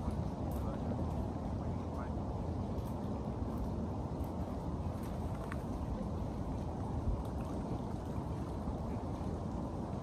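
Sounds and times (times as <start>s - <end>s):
waves lapping against rocks: 0.0s - 10.0s.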